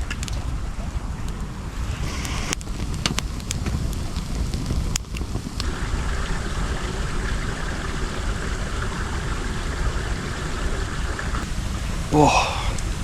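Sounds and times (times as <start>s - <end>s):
wind rumble on microphone: 0.0s - 13.0s
stream rushing: 0.5s - 13.0s.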